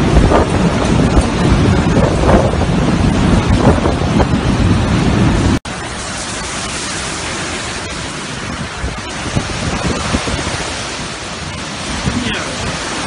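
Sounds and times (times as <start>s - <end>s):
heavy rain: 0.0s - 13.0s
strong wind: 0.0s - 13.0s.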